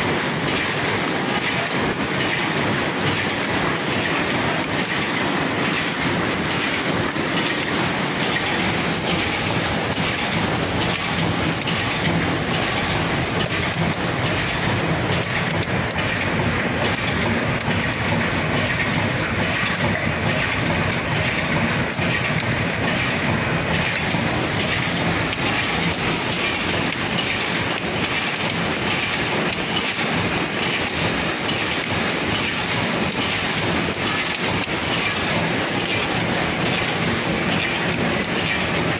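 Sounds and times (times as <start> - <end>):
machines clattering and ticking: 0.0 - 38.9.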